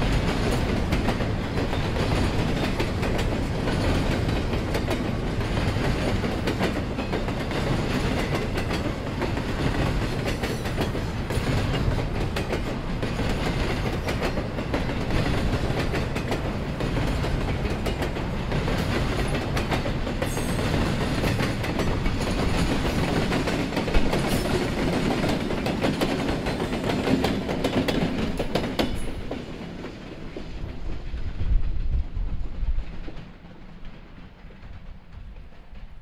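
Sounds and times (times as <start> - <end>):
diesel locomotive passing: 0.0 - 36.0
train wheels rumbling and clicking: 0.0 - 36.0.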